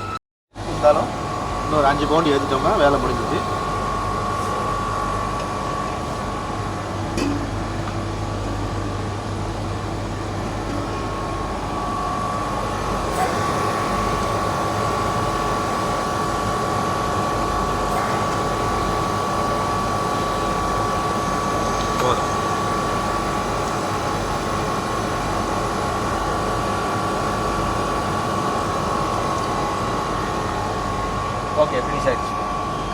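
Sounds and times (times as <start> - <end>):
chiller machine drone with whine: 0.0 - 32.9.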